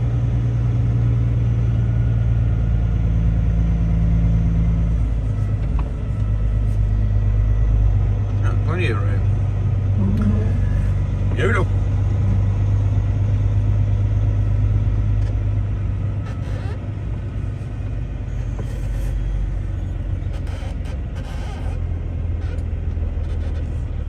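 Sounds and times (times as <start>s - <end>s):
truck engine running at low revs: 0.0s - 24.0s.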